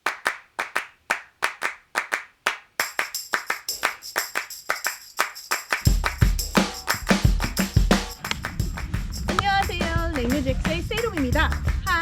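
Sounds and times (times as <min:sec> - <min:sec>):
rhythmic hand claps: 0:00.0 - 0:12.0.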